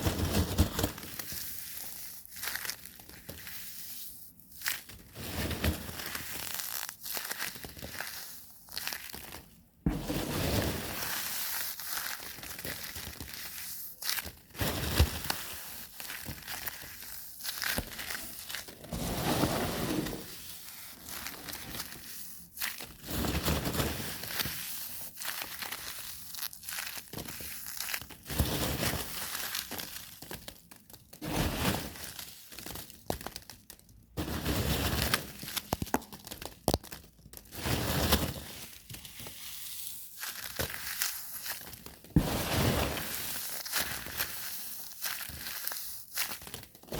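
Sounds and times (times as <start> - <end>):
crinkling and crushing: 0.0 - 46.9.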